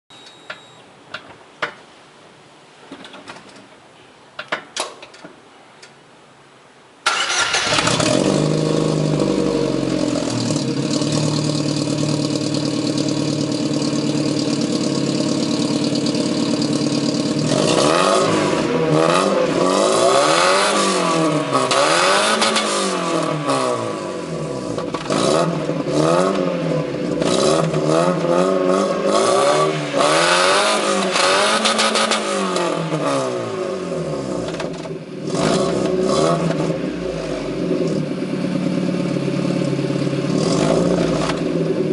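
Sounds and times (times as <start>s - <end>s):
car engine idling and revving: 7.3s - 41.9s.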